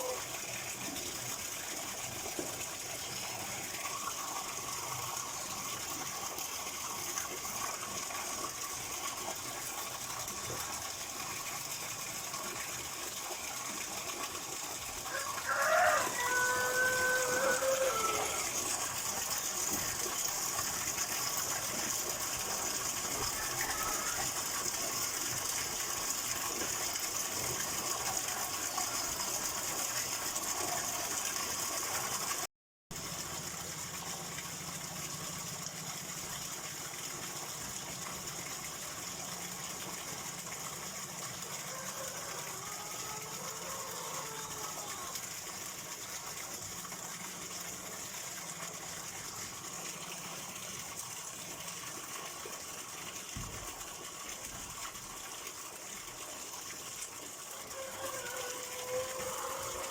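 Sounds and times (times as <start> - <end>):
water rushing in a stream: 0.0 - 59.9.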